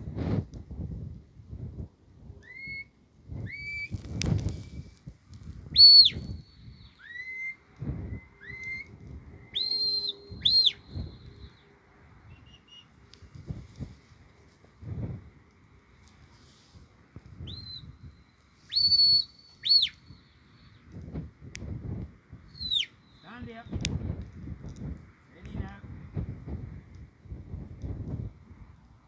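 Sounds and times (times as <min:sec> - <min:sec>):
wind buffeting microphone: 0:00.0 - 0:02.4, 0:03.2 - 0:15.9, 0:16.7 - 0:19.0, 0:20.7 - 0:29.0.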